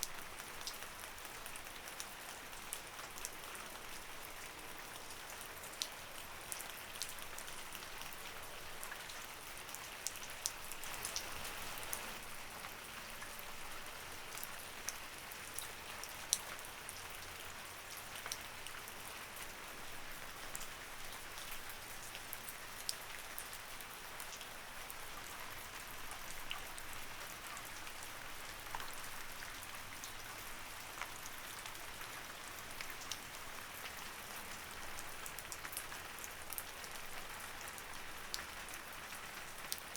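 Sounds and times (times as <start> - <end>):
light rain falling: 0.0 - 39.9
raindrops ticking on a surface: 0.0 - 39.9.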